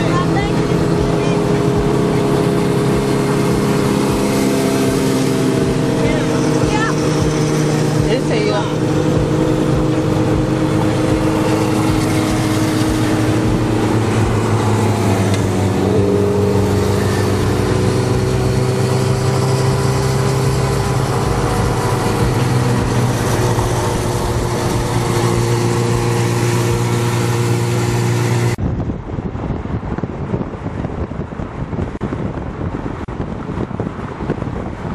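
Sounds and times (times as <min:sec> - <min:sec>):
motorcycle engines droning: 0:00.0 - 0:28.6
road and wind rush: 0:00.0 - 0:34.9.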